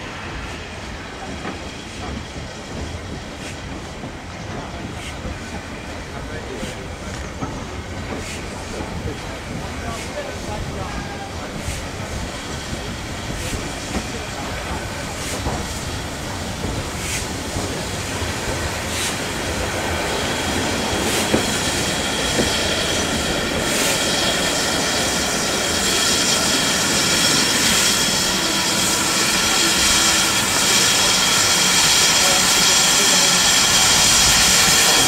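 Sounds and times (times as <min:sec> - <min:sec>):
train wheels rumbling on track: 0:00.0 - 0:35.0.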